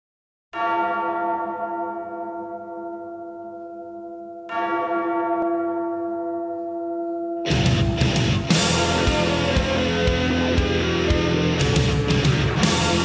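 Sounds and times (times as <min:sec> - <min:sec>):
large bell tolling: 0:00.6 - 0:13.0.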